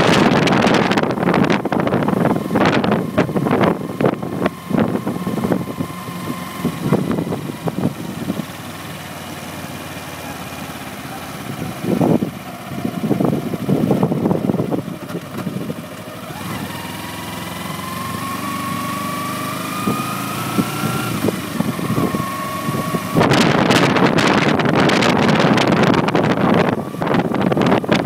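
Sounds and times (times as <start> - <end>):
wind buffeting microphone: 0.0 - 8.7, 11.4 - 17.0, 19.7 - 28.0
motorcycle engine accelerating: 0.0 - 28.0.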